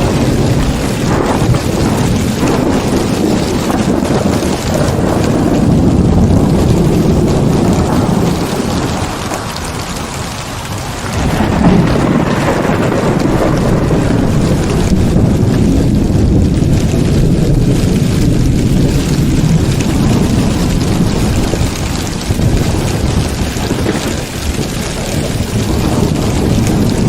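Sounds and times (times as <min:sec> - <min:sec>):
heavy rain: 0:00.0 - 0:27.0
rolling thunder: 0:00.0 - 0:27.0.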